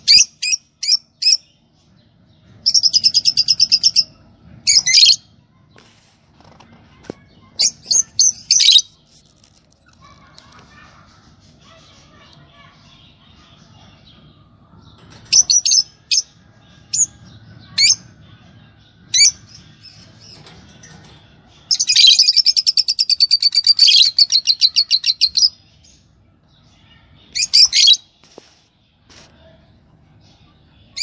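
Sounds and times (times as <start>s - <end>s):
lovebirds chirping and chattering: 0.0s - 31.0s.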